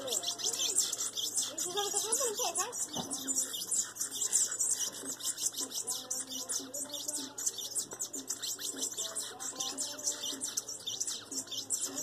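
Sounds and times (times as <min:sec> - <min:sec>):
cage birds chirping and warbling: 0:00.0 - 0:12.0.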